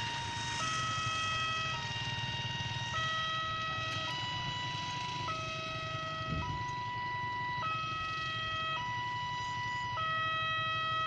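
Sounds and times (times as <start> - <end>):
two-tone level-crossing alarm: 0.0 - 11.0.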